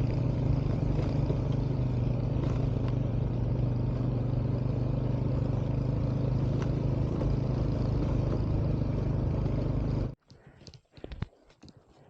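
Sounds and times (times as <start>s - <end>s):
road and wind noise: 0.0s - 10.2s
vehicle engine running: 0.0s - 10.2s.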